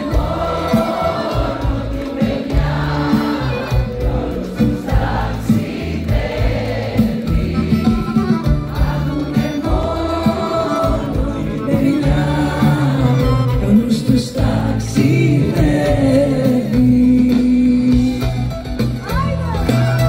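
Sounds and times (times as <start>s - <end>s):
many voices singing together: 0.0s - 18.1s
live band with accordion and bouzouki: 0.0s - 20.0s.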